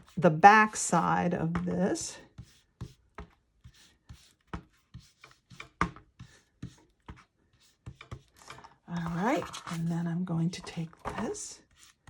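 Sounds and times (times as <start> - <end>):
brush dabbing ink onto paper: 0.0 - 12.0.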